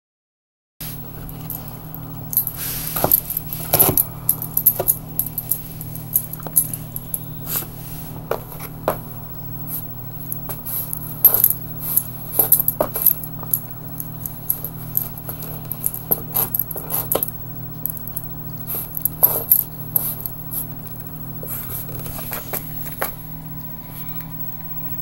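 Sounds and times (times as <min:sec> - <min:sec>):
steady low hum: 0:00.8 - 0:25.0.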